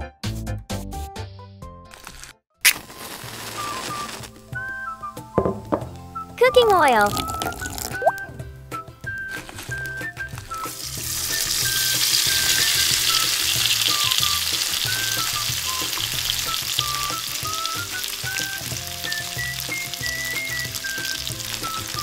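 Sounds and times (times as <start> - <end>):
food deep-frying in oil: 2.6 - 5.8, 6.5 - 8.4, 9.0 - 22.0
light background music: 2.9 - 22.0.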